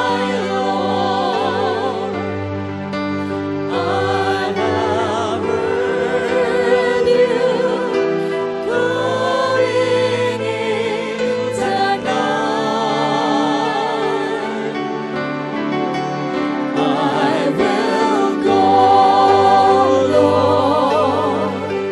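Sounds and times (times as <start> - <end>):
voices singing gospel song: 0.0 - 2.6, 3.2 - 15.6, 16.3 - 21.9
sustained instrumental accompaniment: 0.0 - 21.9.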